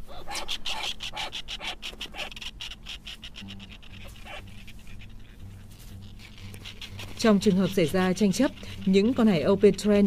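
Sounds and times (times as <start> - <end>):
bird rasping: 0.0 - 10.0
low steady hum: 0.0 - 10.0.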